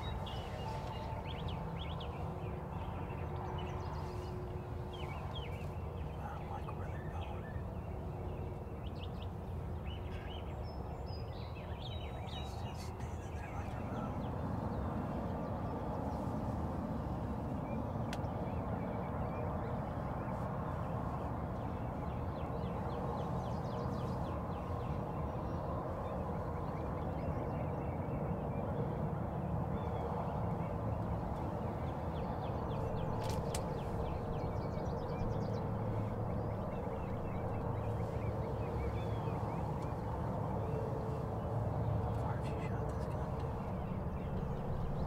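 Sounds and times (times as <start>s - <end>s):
rushing outdoor wind noise: 0.0s - 45.0s.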